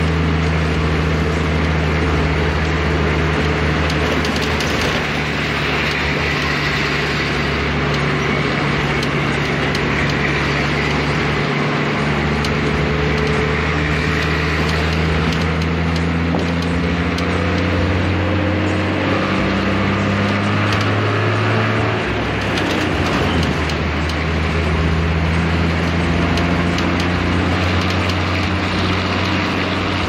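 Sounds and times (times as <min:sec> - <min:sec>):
engine drone: 0:00.0 - 0:30.0
road noise: 0:00.0 - 0:30.0.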